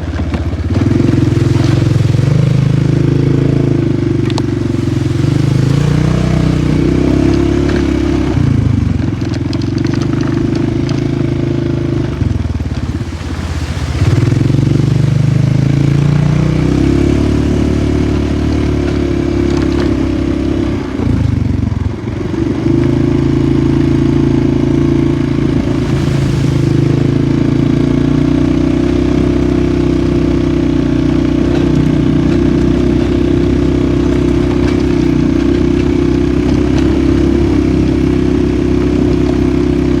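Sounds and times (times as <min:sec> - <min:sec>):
quad bike engine revving: 0:00.0 - 0:40.0.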